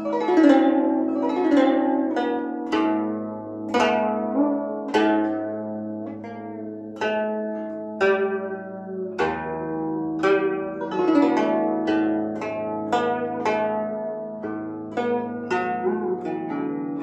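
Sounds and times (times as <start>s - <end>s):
plucked zither notes: 0.0s - 17.0s.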